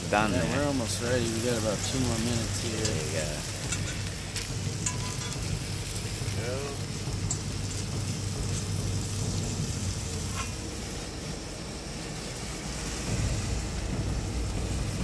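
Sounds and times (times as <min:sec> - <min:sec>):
camp stove low rumble: 0:00.0 - 0:15.0
fish sizzling in a pan: 0:00.0 - 0:15.0.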